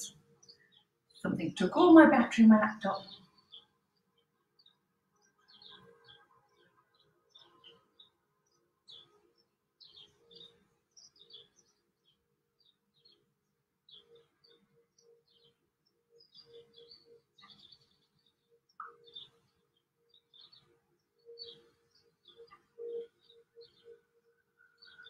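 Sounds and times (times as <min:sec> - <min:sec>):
faint bird chirping: 0:00.0 - 0:25.0.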